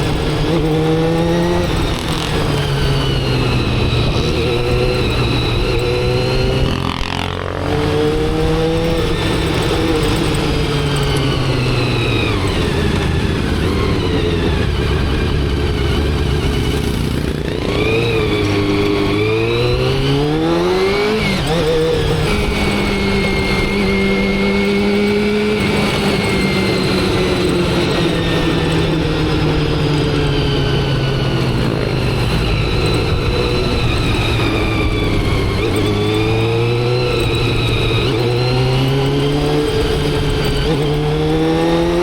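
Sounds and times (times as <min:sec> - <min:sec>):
motorcycle engine accelerating: 0:00.0 - 0:42.0
wind and road rush: 0:00.0 - 0:42.0.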